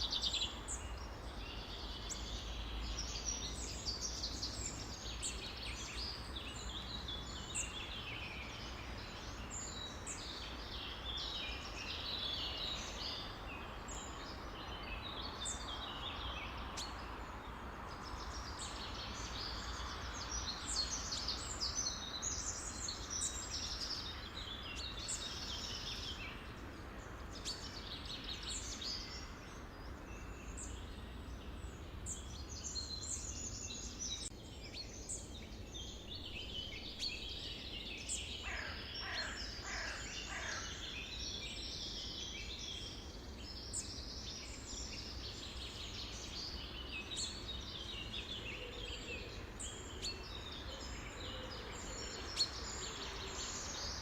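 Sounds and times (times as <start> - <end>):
songbirds chirping and trilling: 0.0 - 54.0
steady background hiss: 0.0 - 54.0.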